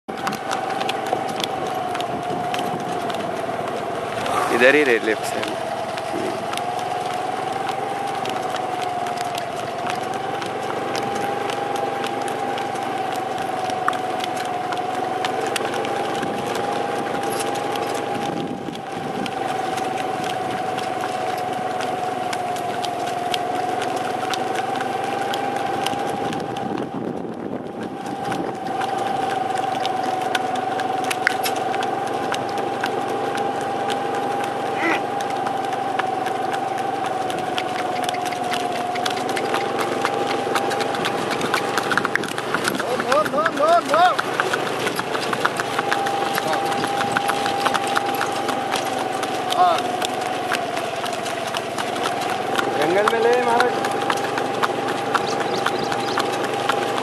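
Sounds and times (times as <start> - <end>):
hooves on paved road: 0.0 - 57.0
constant whine: 0.1 - 57.0
motorcycle engine running: 0.1 - 57.0.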